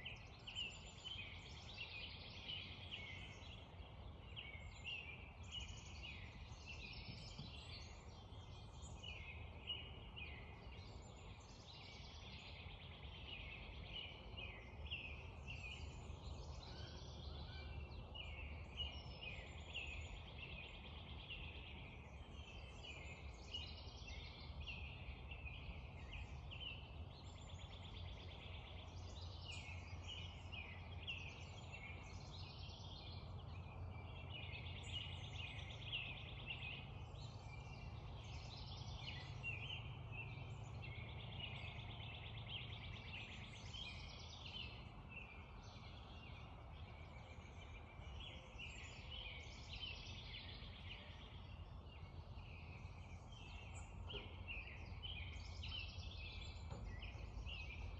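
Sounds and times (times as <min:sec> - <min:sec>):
songbirds singing and chirping: 0:00.0 - 0:57.9.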